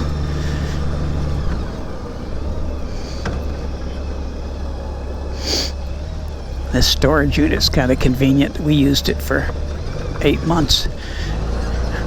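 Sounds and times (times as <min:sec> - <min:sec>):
motor trike engine running: 0:00.0 - 0:12.0.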